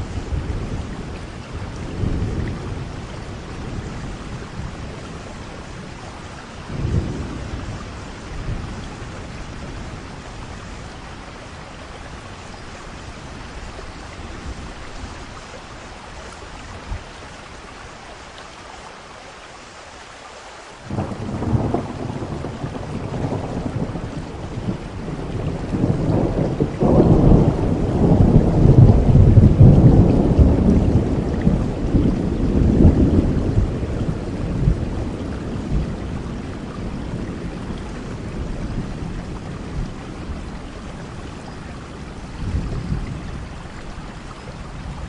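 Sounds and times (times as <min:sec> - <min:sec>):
thunder rumbling: 0:00.0 - 0:15.4, 0:20.9 - 0:45.0
steady rain: 0:00.0 - 0:45.0.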